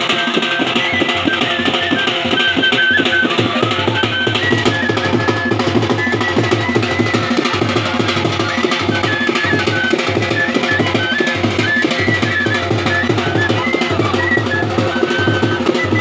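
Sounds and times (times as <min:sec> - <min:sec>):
dhol drums beating: 0:00.0 - 0:16.0
high melody of held notes: 0:00.0 - 0:16.0.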